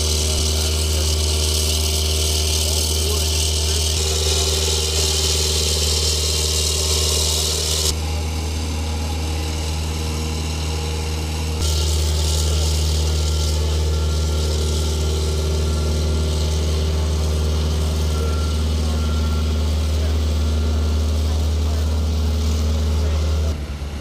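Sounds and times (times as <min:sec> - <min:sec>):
engine running with deep hum: 0:00.0 - 0:24.0.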